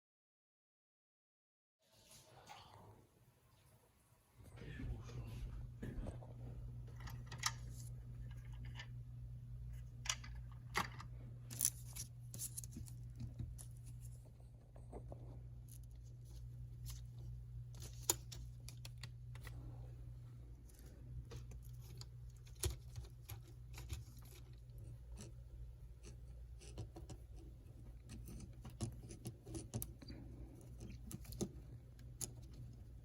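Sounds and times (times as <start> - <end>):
steady low hum: 4.3 - 33.0.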